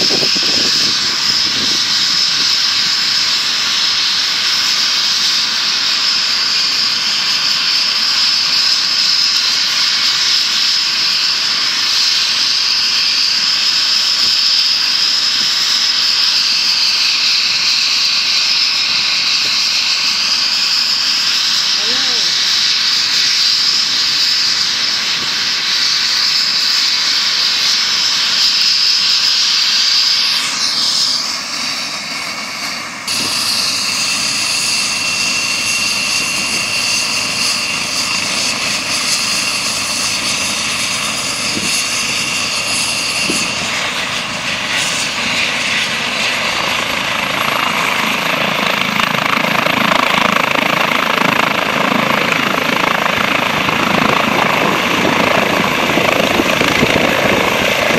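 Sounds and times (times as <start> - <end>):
helicopter rotor noise: 0.0 - 57.9
helicopter turbine whine: 0.0 - 57.9.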